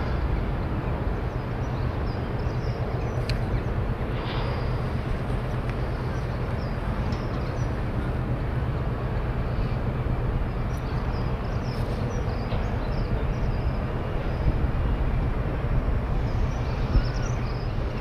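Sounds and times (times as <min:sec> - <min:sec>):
ferry diesel engines rumbling: 0:00.0 - 0:18.0.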